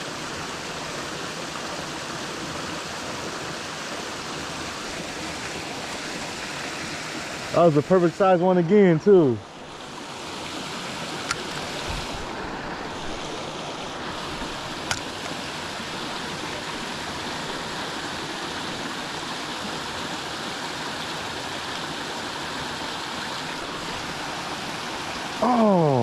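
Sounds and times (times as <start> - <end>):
water rushing over spillway: 0.0 - 26.0.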